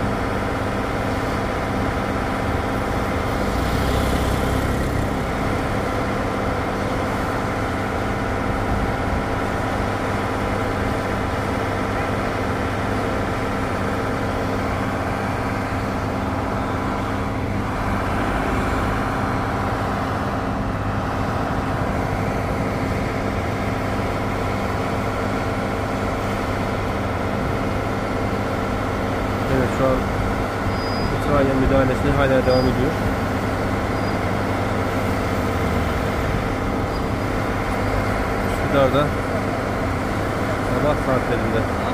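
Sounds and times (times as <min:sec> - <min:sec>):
large vehicle engine idling: 0:00.0 - 0:41.9.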